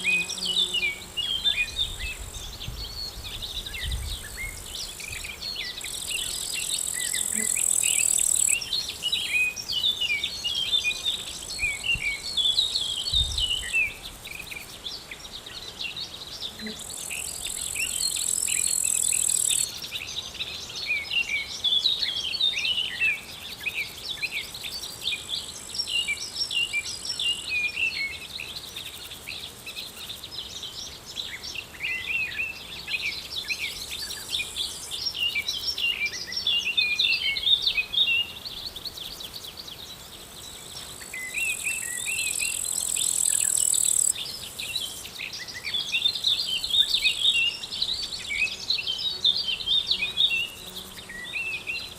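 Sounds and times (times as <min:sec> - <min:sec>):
insects buzzing: 0:00.0 - 0:51.9
small birds chirping: 0:00.0 - 0:51.9.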